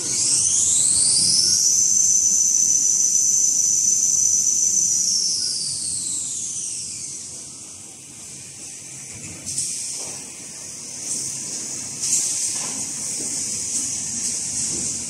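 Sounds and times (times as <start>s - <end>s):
high-pitched machine drive whine: 0.0s - 15.0s.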